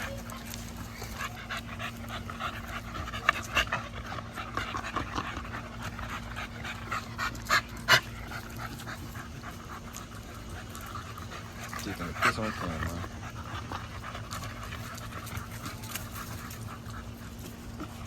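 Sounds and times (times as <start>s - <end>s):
dogs panting: 0.0s - 18.0s
steady low hum: 0.0s - 18.0s.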